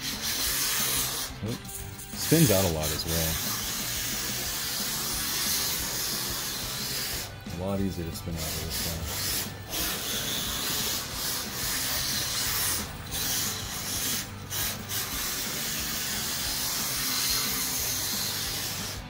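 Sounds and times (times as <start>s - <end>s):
toy car tyres hissing on track: 0.0s - 19.0s.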